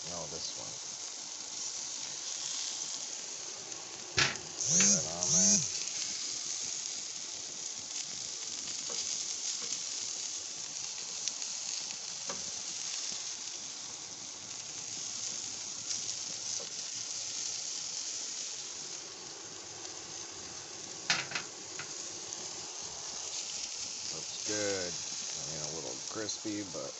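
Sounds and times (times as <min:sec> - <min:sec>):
meat sizzling on a grill: 0:00.0 - 0:26.9.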